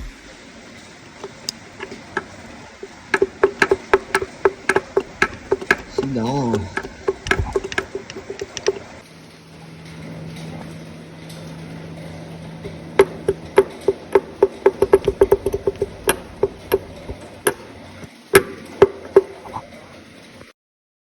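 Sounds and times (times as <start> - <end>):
metal engine parts clacking: 0.0 - 9.0, 9.8 - 20.4.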